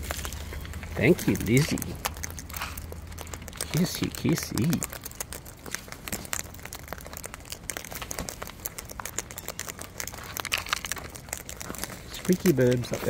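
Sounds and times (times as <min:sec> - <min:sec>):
cockatoos cracking seed husks: 0:00.0 - 0:13.0.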